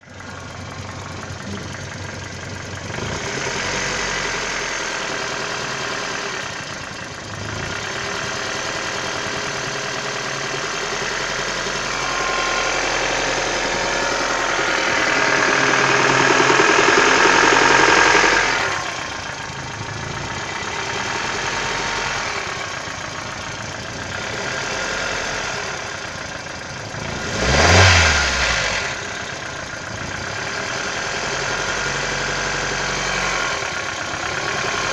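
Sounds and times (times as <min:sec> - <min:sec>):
car engine running with knock: 0:00.0 - 0:34.9.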